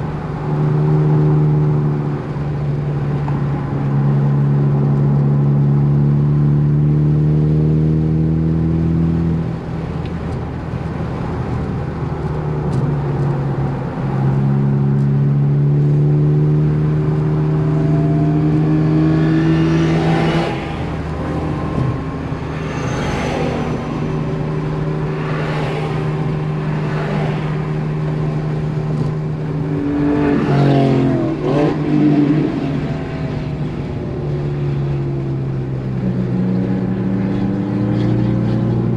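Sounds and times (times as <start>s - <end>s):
car engine at speed: 0.0s - 38.9s.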